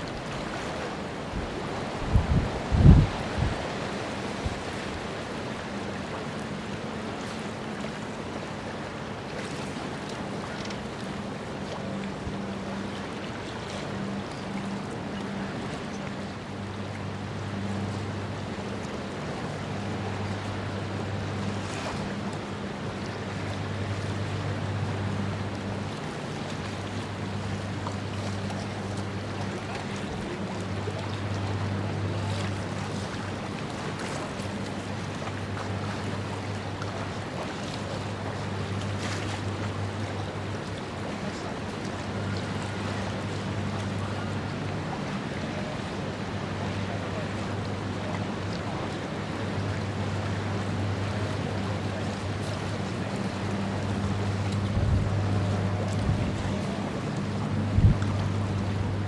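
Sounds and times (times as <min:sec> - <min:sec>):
rush of wind and water: 0:00.0 - 0:59.0
ship machinery hum: 0:00.0 - 0:59.0.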